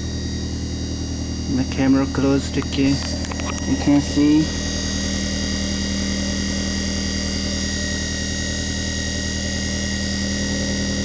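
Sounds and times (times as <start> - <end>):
electric motor hum and whine: 0.0 - 11.0.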